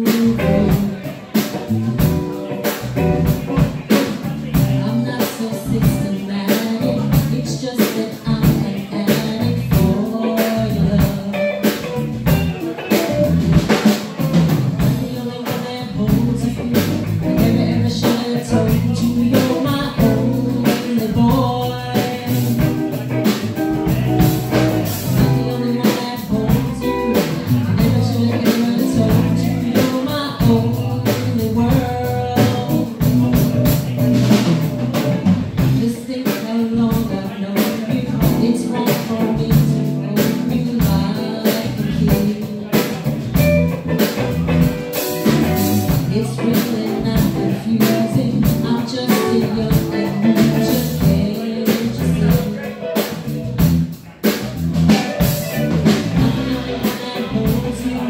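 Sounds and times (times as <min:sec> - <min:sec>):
drum kit steady beat: 0:00.0 - 0:58.0
electric bass: 0:00.0 - 0:58.0
electric guitar: 0:00.0 - 0:58.0.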